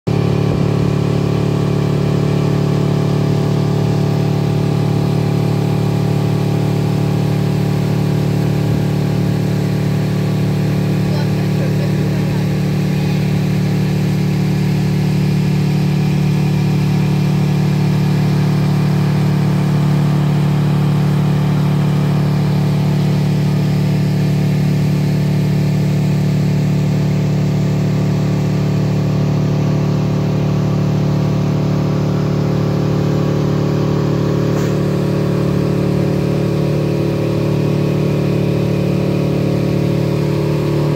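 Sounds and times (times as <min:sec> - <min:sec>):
motorboat engine drone: 0:00.1 - 0:40.9.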